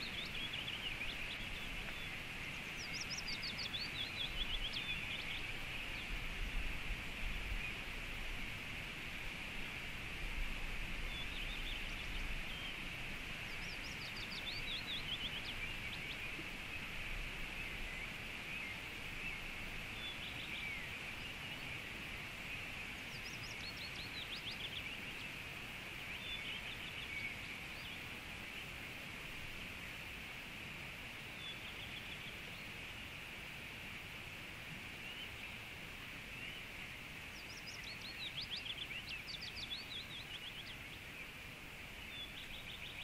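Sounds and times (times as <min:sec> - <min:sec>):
birds chirping in trills: 0:00.0 - 0:08.1, 0:10.9 - 0:30.0, 0:35.0 - 0:43.0
running water hiss: 0:00.0 - 0:43.0.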